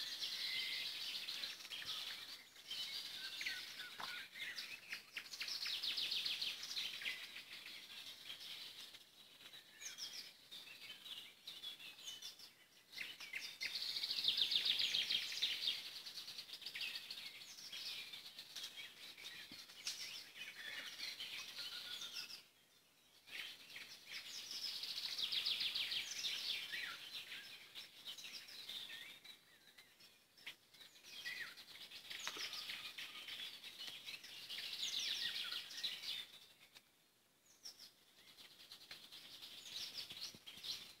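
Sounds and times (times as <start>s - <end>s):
songbirds singing trills: 0.0s - 41.0s.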